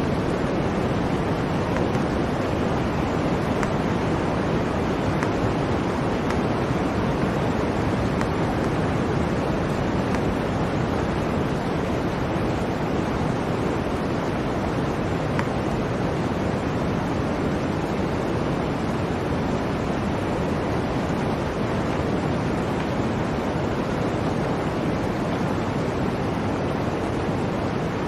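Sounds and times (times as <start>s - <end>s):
blizzard wind rushing: 0.0s - 28.0s.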